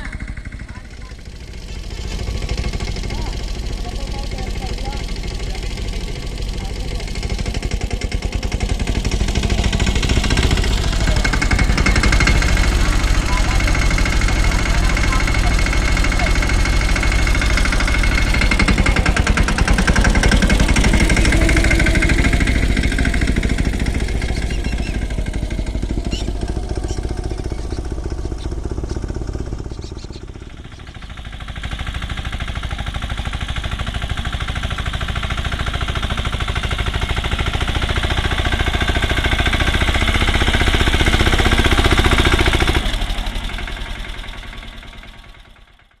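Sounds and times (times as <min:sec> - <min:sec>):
tractor diesel engine chugging: 0:00.0 - 0:46.0.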